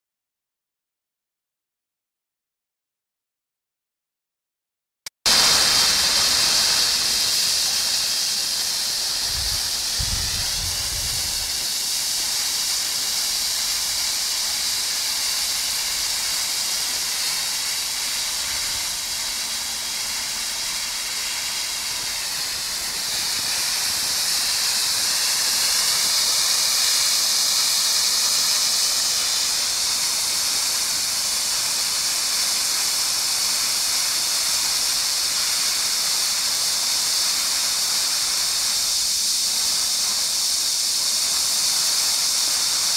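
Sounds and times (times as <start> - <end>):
firework fountain hissing: 5.3 - 42.9.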